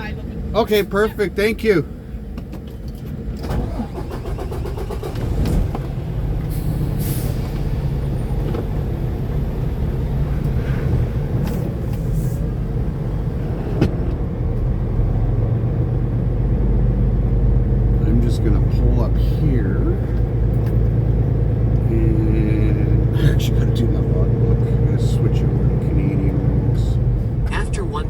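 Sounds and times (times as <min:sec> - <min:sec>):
diesel truck engine pulling away: 0:01.7 - 0:28.0.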